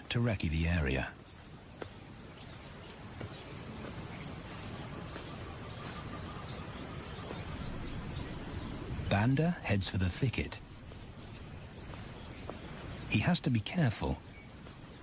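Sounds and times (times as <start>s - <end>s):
soft hiss: 0.0s - 15.0s
high insect drone: 0.3s - 15.0s.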